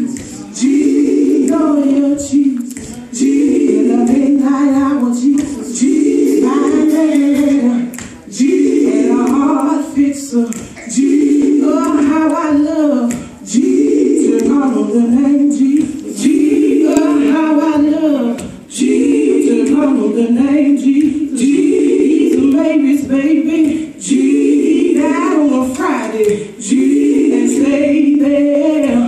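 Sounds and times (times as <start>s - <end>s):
women singing a cappella: 0.0s - 29.0s.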